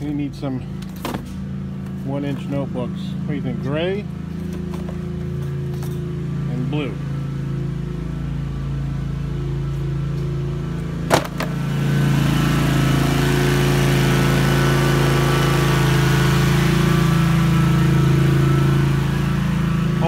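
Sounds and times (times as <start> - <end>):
floor burnisher droning: 0.0 - 20.0.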